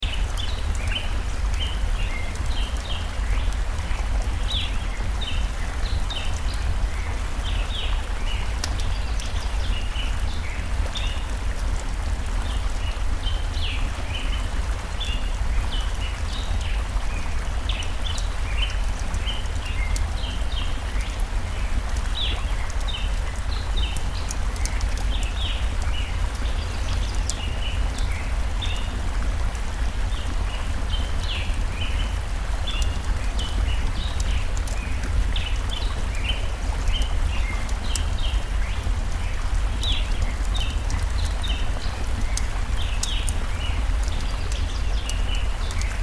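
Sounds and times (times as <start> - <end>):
campfire crackles: 0.0 - 46.0
forest stream rushing: 0.0 - 46.0
small birds chirping: 0.0 - 46.0.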